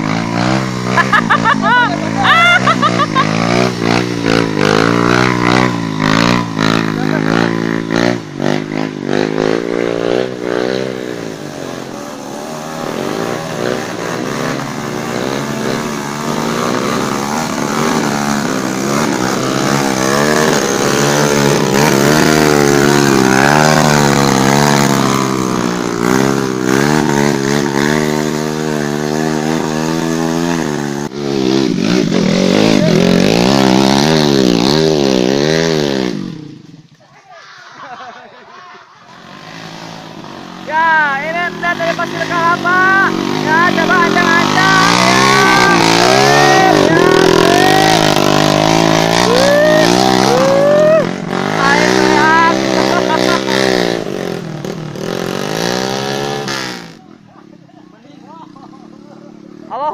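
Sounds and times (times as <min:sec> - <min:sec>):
motorcycle engines revving: 0:00.0 - 0:37.0, 0:37.6 - 0:59.9.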